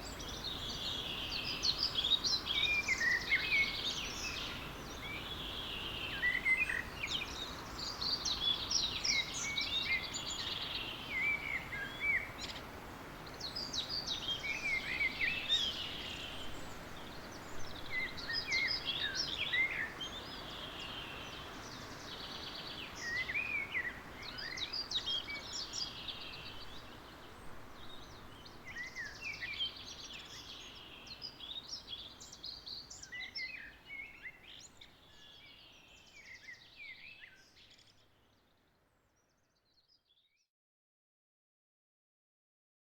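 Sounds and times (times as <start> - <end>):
faint background hiss: 0.0 - 39.7
songbirds singing: 0.0 - 40.5.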